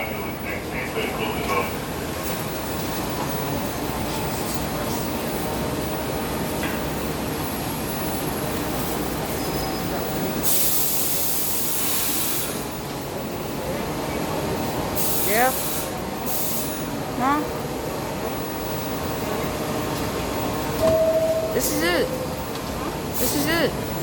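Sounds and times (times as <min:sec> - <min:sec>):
subway train on track: 0:00.0 - 0:24.0.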